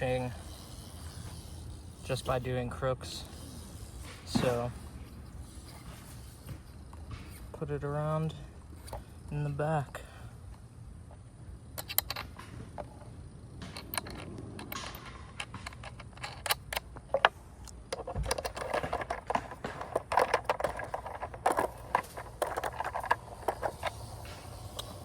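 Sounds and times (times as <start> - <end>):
metal skateboard parts clicking: 0.0 - 7.5, 11.1 - 25.0.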